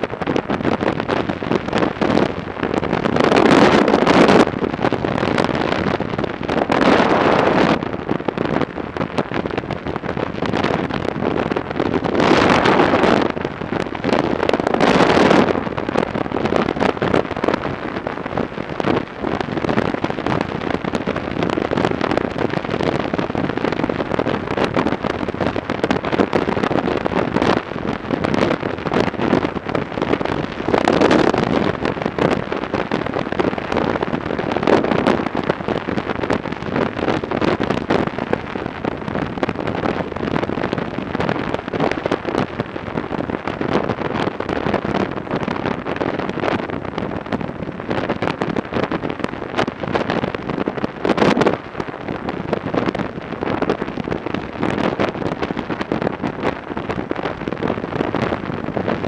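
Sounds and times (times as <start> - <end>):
motorcycle road and engine noise: 0.0 - 59.0
wind buffeting microphone: 0.0 - 59.0.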